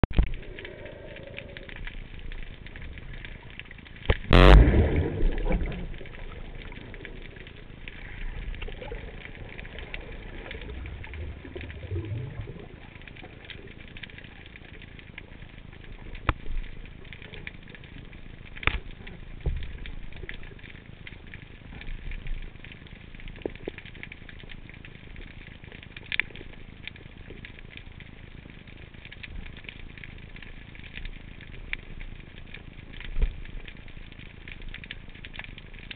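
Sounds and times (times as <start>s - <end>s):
steady underwater hiss: 0.2s - 35.9s.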